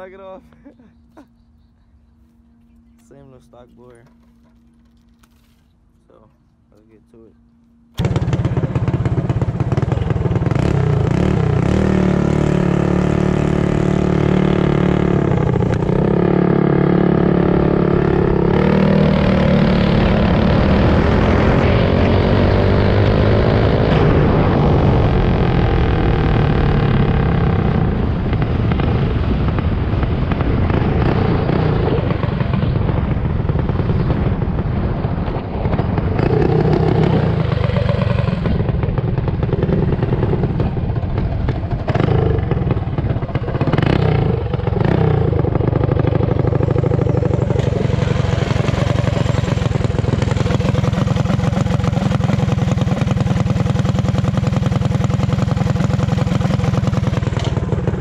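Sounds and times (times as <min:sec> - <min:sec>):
mini bike engine revving: 0:08.0 - 0:58.0.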